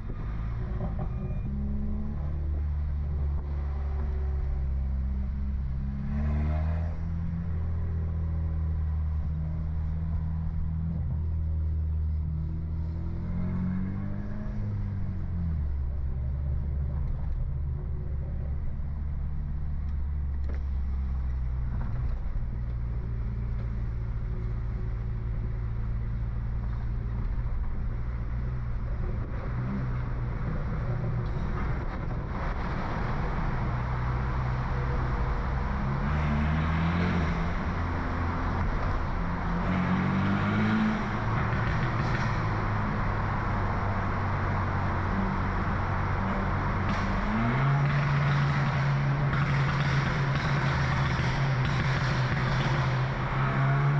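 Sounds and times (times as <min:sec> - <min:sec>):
car engine and exhaust drone: 0:00.0 - 0:53.9
rushing road noise: 0:00.0 - 0:53.9.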